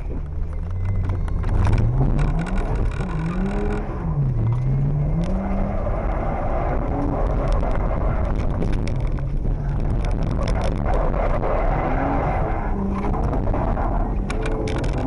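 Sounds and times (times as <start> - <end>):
car engine revving: 0.0 - 15.0
road and wind noise: 0.0 - 15.0.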